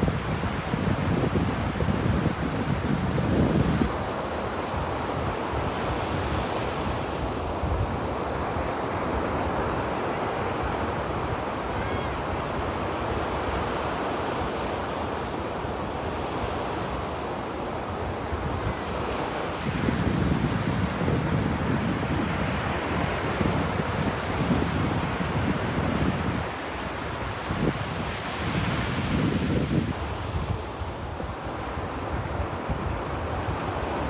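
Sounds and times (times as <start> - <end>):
ocean surf on a beach: 0.0 - 34.0.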